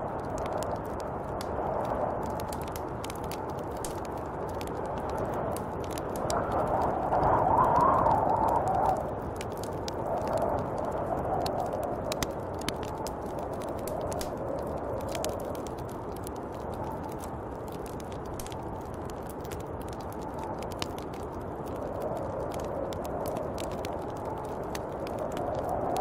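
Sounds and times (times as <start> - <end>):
snowstorm wind blowing: 0.0 - 26.0
light ticks: 0.2 - 26.0.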